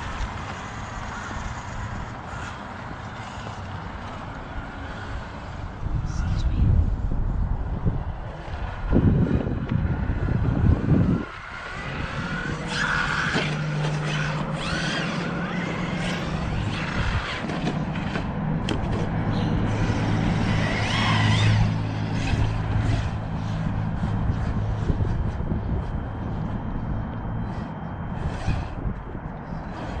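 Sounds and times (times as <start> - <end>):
electric motor whine: 0.0 - 30.0
steady low hum: 0.0 - 30.0.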